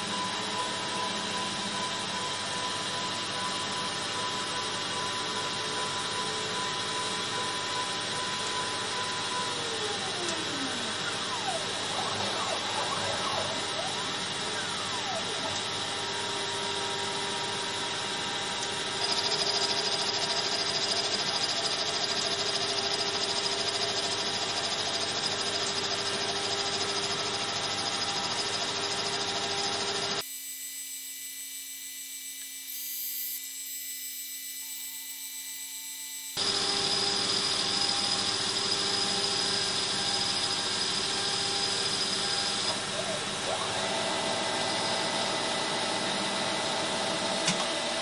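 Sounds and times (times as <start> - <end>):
metal lathe whirring: 0.0 - 48.0.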